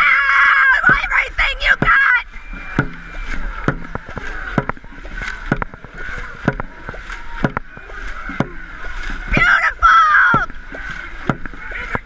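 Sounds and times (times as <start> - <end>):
rushing water: 0.0 - 12.0
rhythmic paddle knocks: 0.6 - 12.0.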